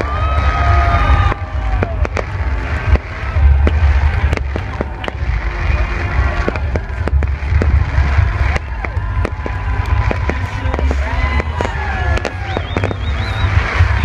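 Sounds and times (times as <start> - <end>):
fireworks bangs and crackles: 0.0 - 14.0
low rumble: 0.0 - 14.0.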